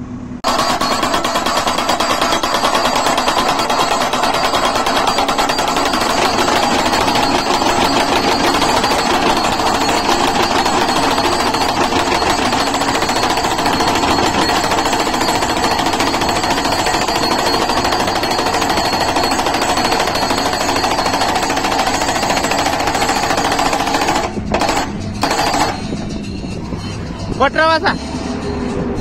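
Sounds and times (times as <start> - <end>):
post-driving hammer pounding: 0.4 - 27.7.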